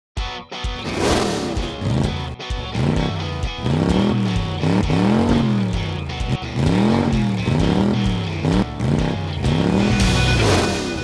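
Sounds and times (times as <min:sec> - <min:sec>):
upbeat music with swooping riff: 0:00.2 - 0:11.0.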